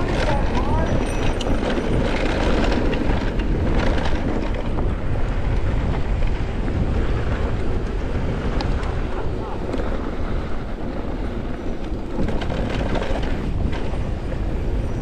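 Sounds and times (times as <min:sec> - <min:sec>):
bike clicks and rattles: 0:00.0 - 0:15.0
tyres on loose dirt: 0:00.0 - 0:15.0
wind rumble on microphone: 0:00.0 - 0:15.0.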